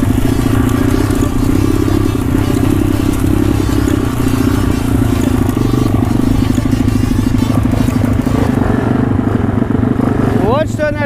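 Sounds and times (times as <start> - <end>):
motorbike engine running: 0.0 - 11.0.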